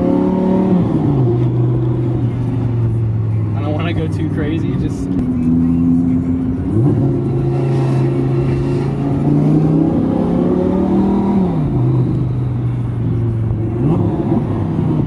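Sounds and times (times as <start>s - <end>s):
car engine from inside cabin: 0.0s - 15.0s.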